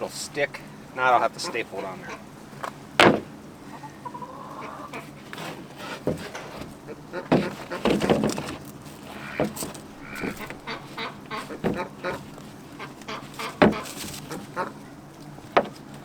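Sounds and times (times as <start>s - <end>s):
poultry calling: 0.0s - 16.0s.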